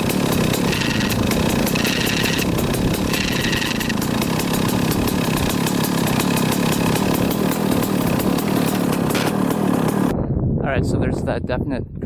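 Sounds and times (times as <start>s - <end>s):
two-stroke engine idling: 0.0s - 10.1s.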